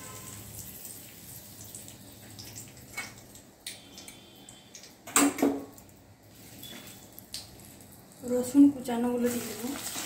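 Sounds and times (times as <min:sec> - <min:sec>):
leaves sizzling in hot oil: 0:00.0 - 0:05.0, 0:05.8 - 0:10.0
oil popping and crackling: 0:00.0 - 0:10.0.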